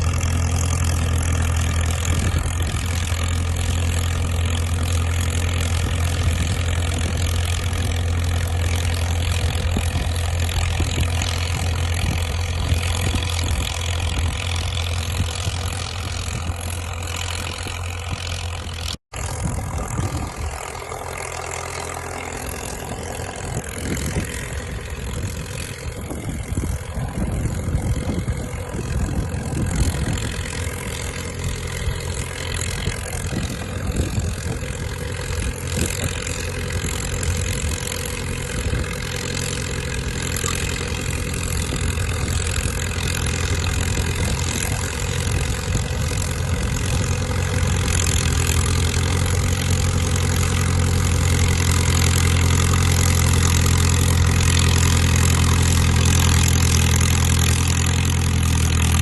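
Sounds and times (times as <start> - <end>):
diesel dozer engine droning: 0.0 - 59.0.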